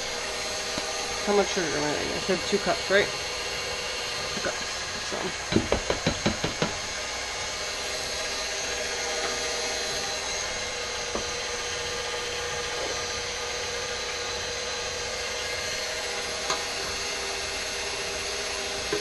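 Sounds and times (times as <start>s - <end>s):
stand mixer motor humming: 0.0s - 19.0s.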